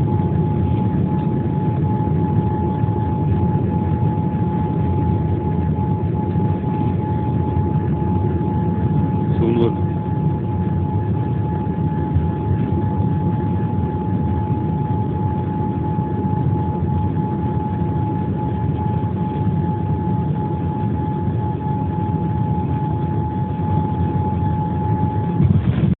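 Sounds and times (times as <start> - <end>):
jet engine drone: 0.0 - 26.0
steady high whine: 0.0 - 26.0.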